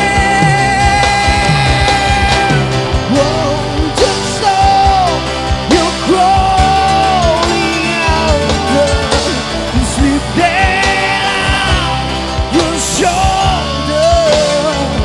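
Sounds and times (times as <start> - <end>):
drums: 0.0 - 15.0
person singing long notes: 0.0 - 15.0
rock band playing: 0.0 - 15.0.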